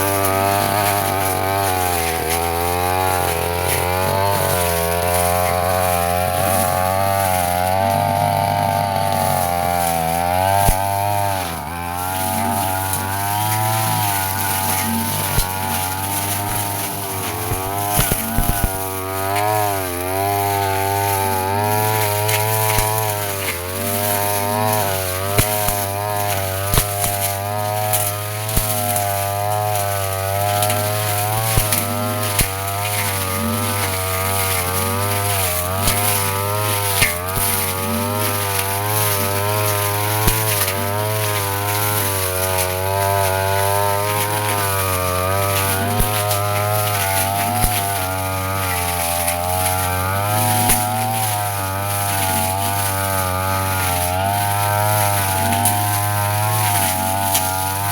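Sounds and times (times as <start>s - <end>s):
brush cutter engine revving: 0.0s - 57.9s.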